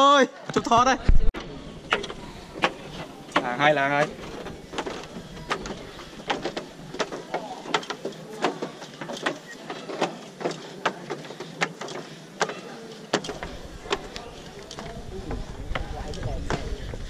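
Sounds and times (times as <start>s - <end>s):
footsteps climbing stairs: 0.7s - 17.0s.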